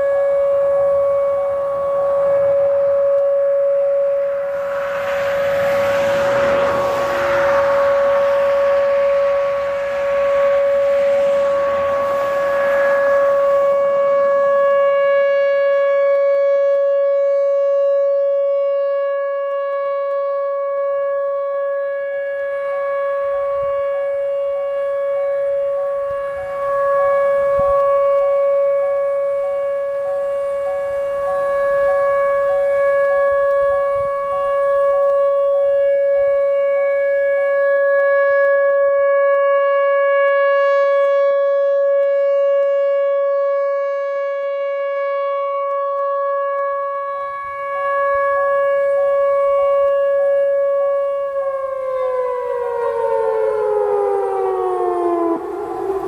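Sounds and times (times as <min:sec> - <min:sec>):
tornado siren steady tone: 0:00.0 - 0:56.0.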